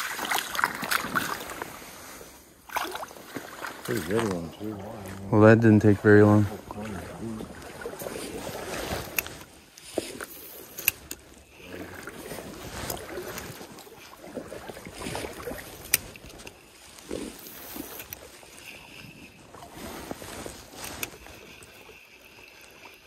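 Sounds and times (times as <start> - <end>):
fishing rod and reel rustling: 0.0 - 23.0.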